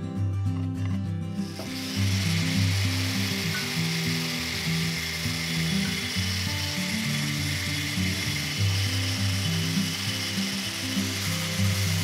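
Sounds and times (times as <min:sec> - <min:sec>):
angle grinder grinding wood: 0:01.4 - 0:12.0.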